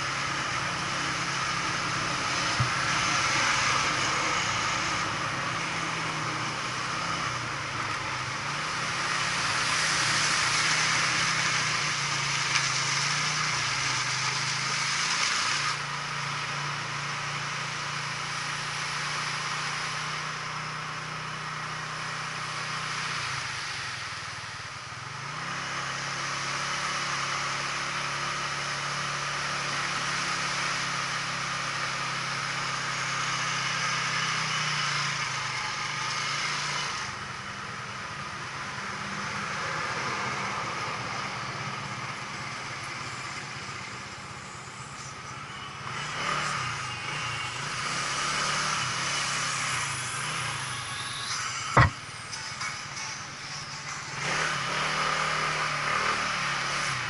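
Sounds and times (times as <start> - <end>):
small engine humming: 0.0 - 57.0
wind and road noise: 0.0 - 57.0.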